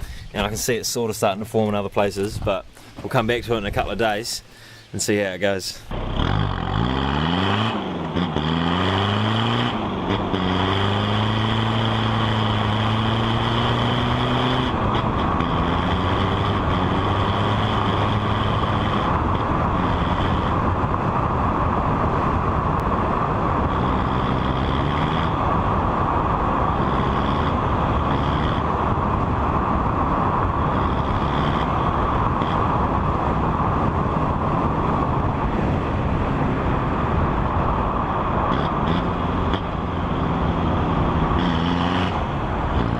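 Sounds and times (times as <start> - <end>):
road noise: 0.0 - 42.9.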